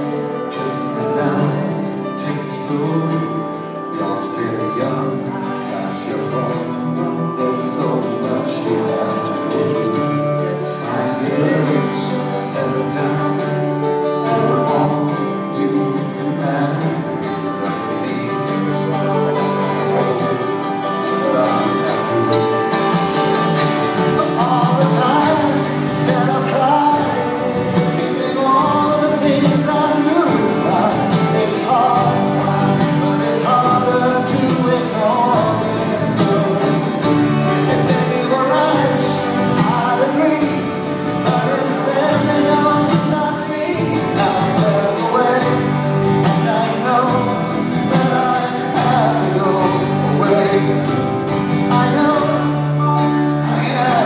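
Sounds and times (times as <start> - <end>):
live band playing: 0.0 - 54.0
man singing: 0.0 - 54.0
strummed acoustic guitar: 0.0 - 54.0.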